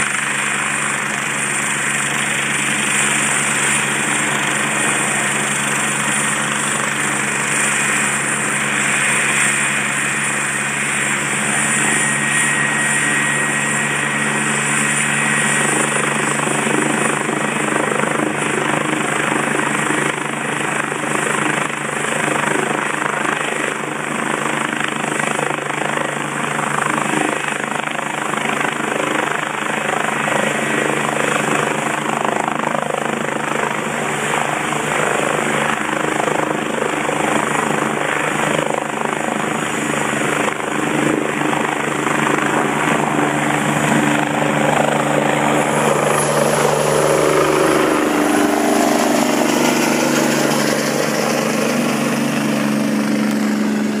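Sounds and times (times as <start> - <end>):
helicopter rotor roar: 0.0 - 54.0.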